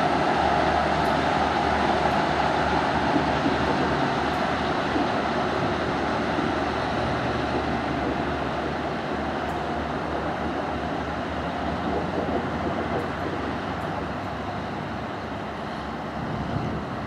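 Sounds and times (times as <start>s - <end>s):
diesel train pulling away: 0.0s - 17.0s.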